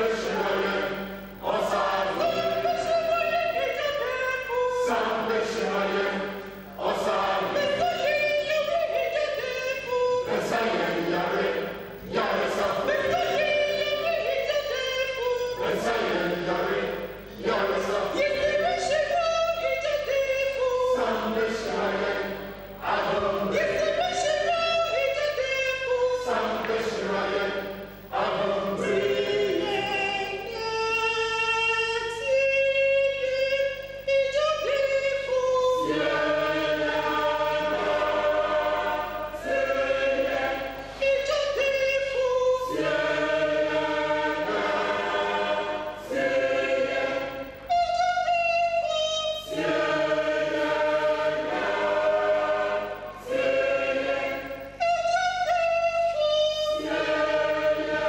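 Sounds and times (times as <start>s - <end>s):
mixed choir singing in parts: 0.0s - 58.0s.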